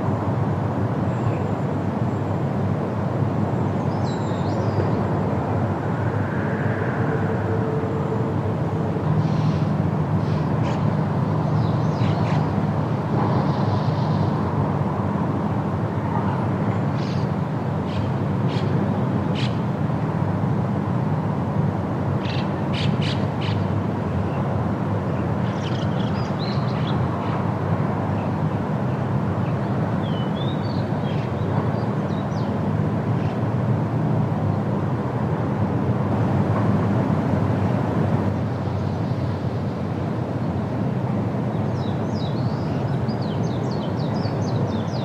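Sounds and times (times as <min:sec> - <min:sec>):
wind in forest: 0:00.0 - 0:45.0.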